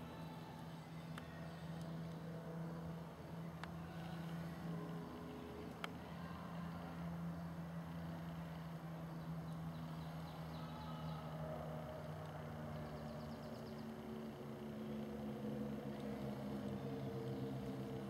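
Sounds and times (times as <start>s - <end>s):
distant engine humming: 0.0s - 18.0s.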